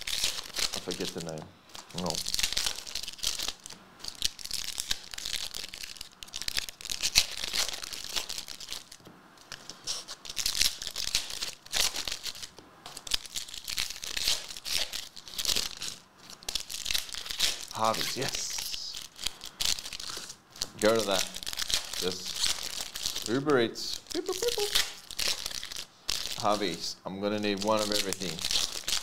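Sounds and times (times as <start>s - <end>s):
foil wrappers tearing and crinkling: 0.0s - 26.8s, 27.4s - 29.0s.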